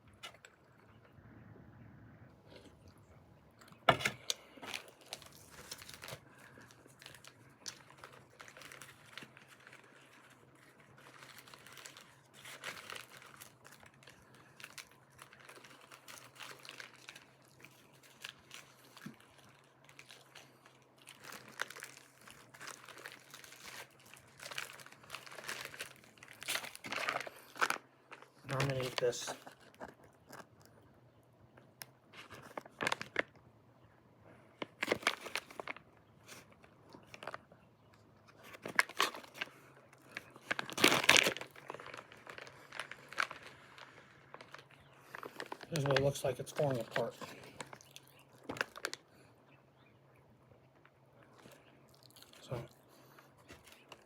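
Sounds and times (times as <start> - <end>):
faint low hum: 0.0 - 54.0
packaging crinkling: 3.6 - 31.0, 31.6 - 49.3, 50.8 - 54.0.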